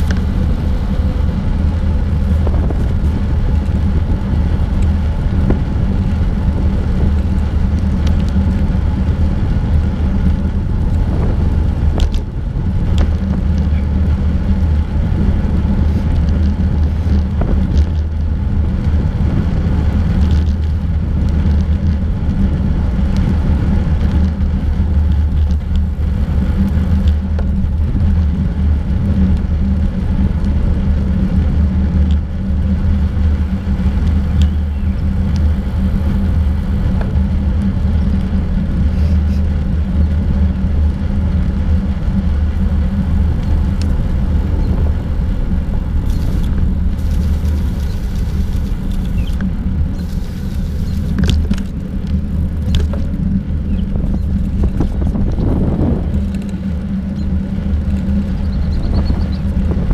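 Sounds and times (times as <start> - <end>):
road vibration rumble: 0.0 - 59.9
wind buffeting: 0.0 - 59.9.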